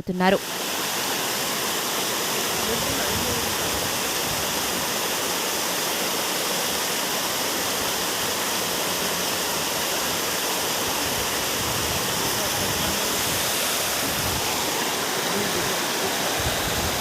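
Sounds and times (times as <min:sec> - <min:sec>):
floodwater rushing in a stream: 0:00.4 - 0:17.0.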